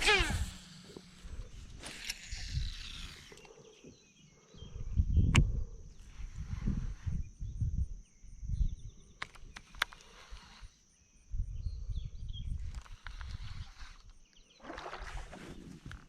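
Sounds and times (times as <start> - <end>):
crickets buzzing: 0.0 - 16.0.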